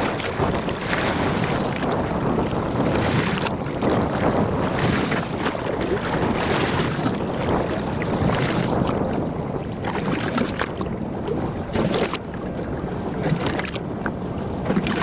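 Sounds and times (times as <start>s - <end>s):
motorboat engine: 0.0s - 15.0s
rushing water: 0.0s - 15.0s
wind buffeting microphone: 0.0s - 15.0s.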